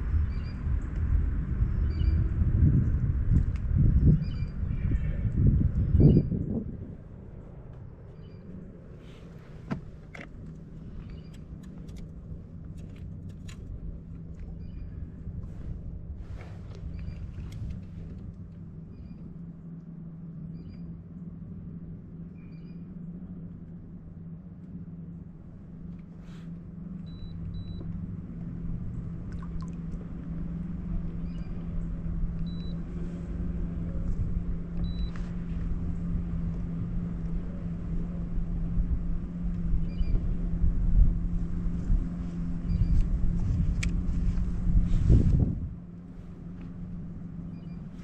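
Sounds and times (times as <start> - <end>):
boat motor humming: 0.0 - 48.0.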